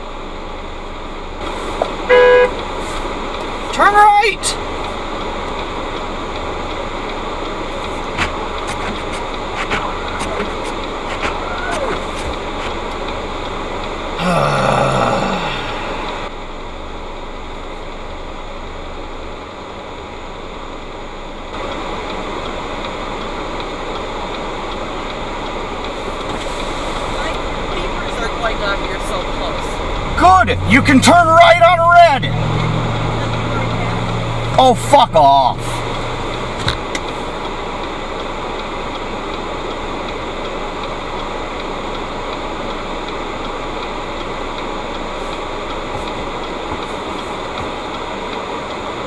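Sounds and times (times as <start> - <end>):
car engine and tyre noise: 0.0 - 49.0
faint regular ticking: 1.4 - 16.3, 21.5 - 49.0.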